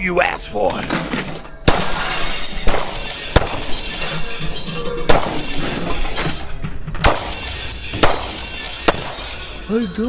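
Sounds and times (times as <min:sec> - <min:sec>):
glass breaking: 0:01.0 - 0:09.8
smashing blows: 0:01.2 - 0:09.7.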